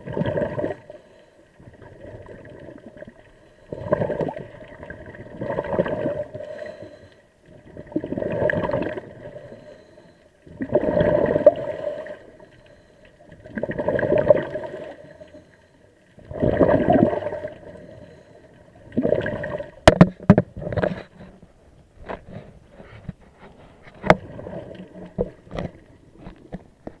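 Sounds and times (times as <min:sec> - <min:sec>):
underwater bubbles gurgling: 0:00.0 - 0:22.5, 0:23.9 - 0:27.0.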